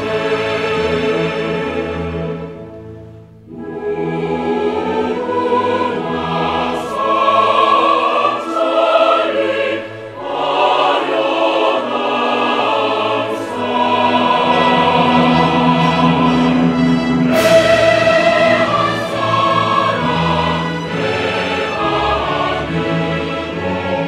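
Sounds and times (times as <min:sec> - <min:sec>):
choir singing: 0:00.0 - 0:02.8, 0:03.4 - 0:24.0.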